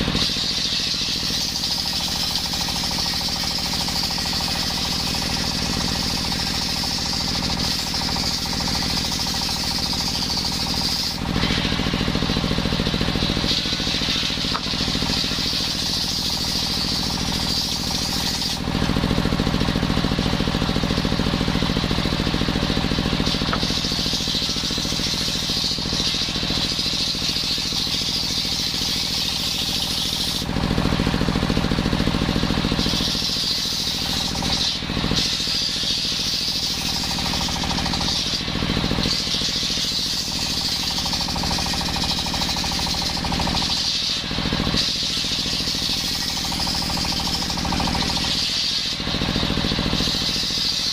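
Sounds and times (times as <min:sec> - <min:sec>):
circular saw cutting wood: 0:00.0 - 0:50.9.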